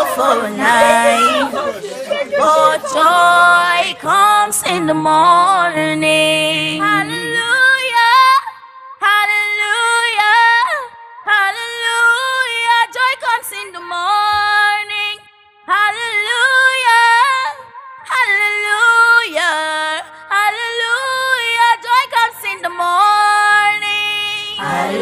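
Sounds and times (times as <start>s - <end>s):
woman singing: 0.0s - 25.0s.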